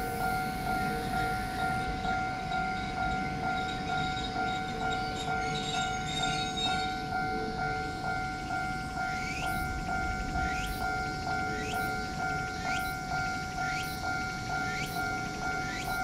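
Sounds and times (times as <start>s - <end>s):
level crossing alarm ringing: 0.0s - 16.0s.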